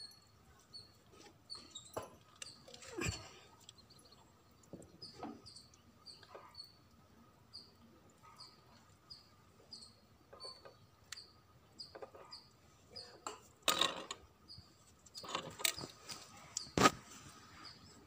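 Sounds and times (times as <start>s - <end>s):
small bird chirping: 0.0s - 6.9s, 7.5s - 13.2s, 14.4s - 16.8s, 17.5s - 18.0s.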